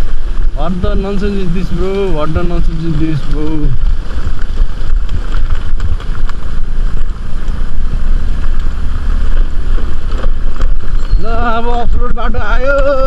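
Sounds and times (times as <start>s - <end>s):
scooter engine and road noise: 0.0s - 13.0s
wind rumble on microphone: 0.0s - 13.0s.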